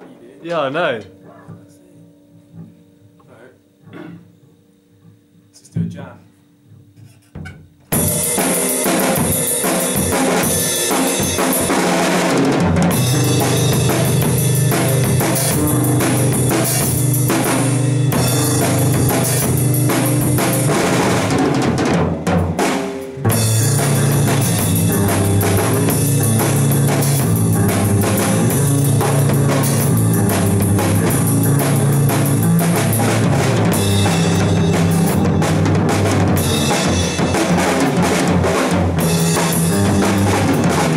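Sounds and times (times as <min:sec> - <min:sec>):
drum kit playing: 0:00.0 - 0:40.9.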